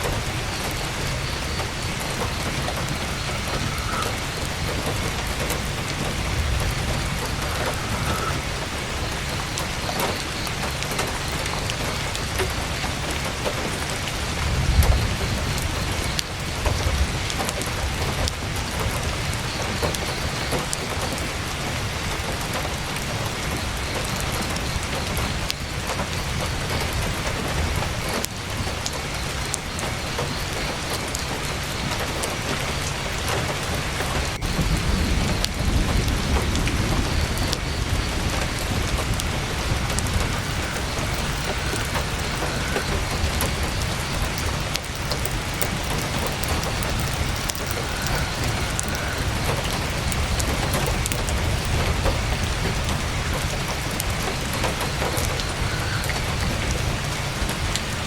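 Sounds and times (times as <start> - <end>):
heavy rain on tent canvas: 0.0 - 58.0.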